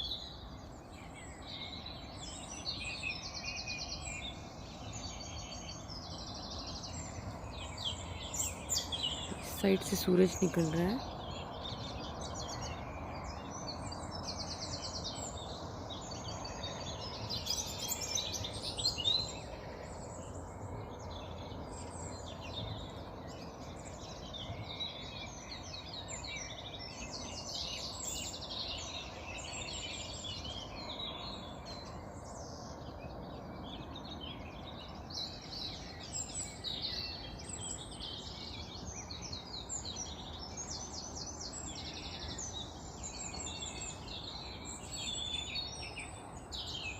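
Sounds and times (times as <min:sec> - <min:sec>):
birds singing dawn chorus: 0:00.0 - 0:46.9.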